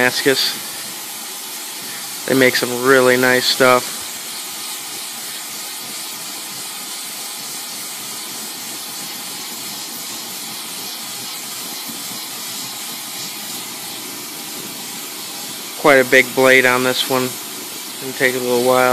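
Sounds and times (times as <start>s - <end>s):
torch flame hissing: 0.0s - 18.9s.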